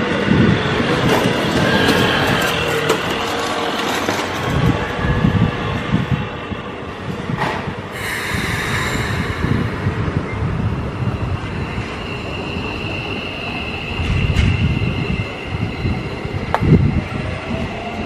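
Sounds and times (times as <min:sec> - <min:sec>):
electric train rumbling past: 0:00.0 - 0:18.0.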